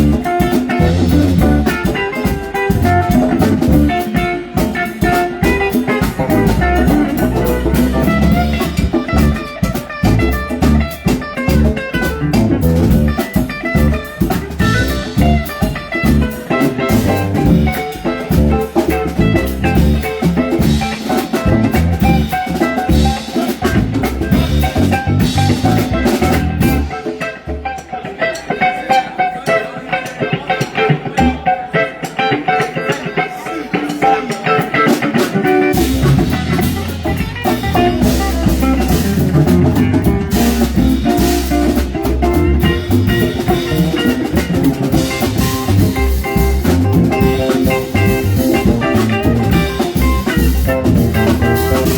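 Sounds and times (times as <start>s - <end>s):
electric guitar: 0.0s - 51.9s
live rock band playing: 0.0s - 51.9s.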